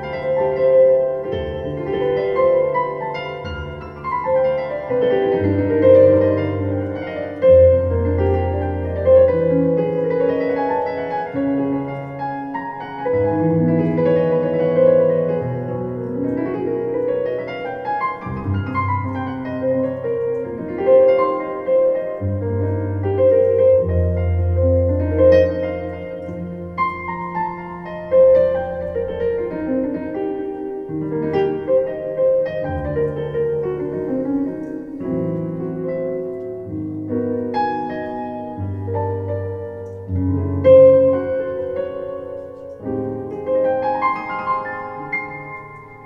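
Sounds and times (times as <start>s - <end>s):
solo piano: 0.0s - 46.0s.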